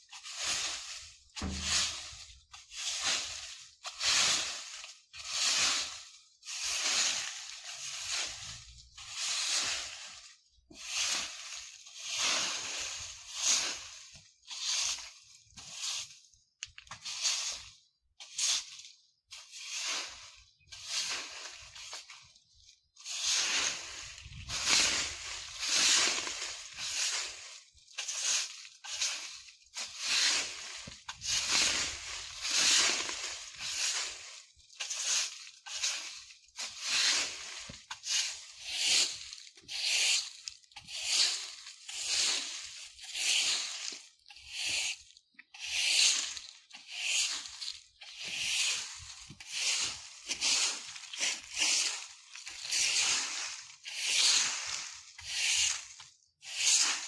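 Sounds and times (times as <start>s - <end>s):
broom sweeping dry leaves: 0.0s - 16.4s, 17.0s - 57.0s.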